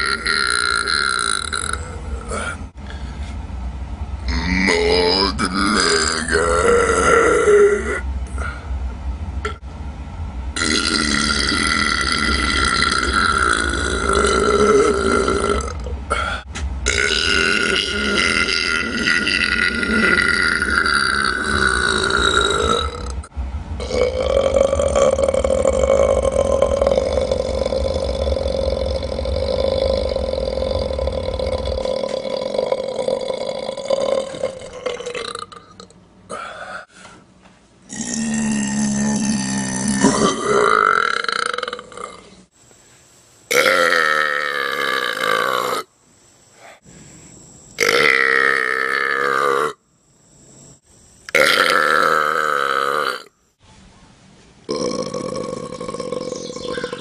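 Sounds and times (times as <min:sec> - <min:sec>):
person belching: 0:00.0 - 0:02.6, 0:04.3 - 0:08.6, 0:10.6 - 0:36.9, 0:37.9 - 0:42.4, 0:43.5 - 0:45.9, 0:47.8 - 0:49.8, 0:51.3 - 0:53.3, 0:54.7 - 0:57.0.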